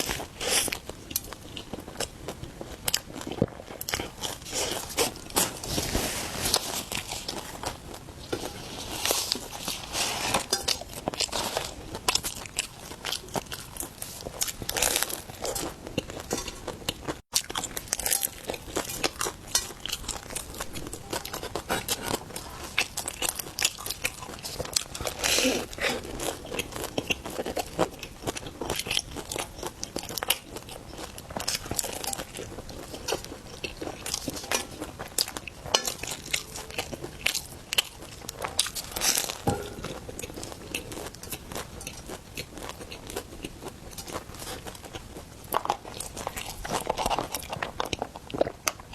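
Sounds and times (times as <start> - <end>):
bread crust crunching while chewing: 0.0 - 48.9.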